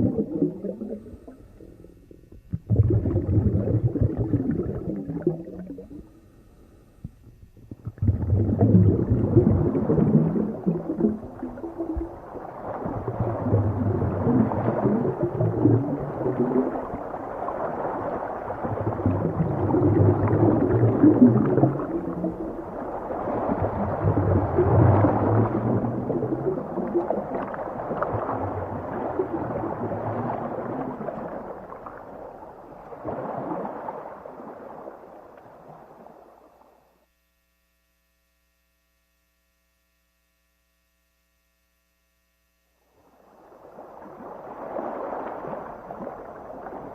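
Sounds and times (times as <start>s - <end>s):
underwater water rumbling and gurgling: 0.0s - 37.2s, 42.6s - 46.9s.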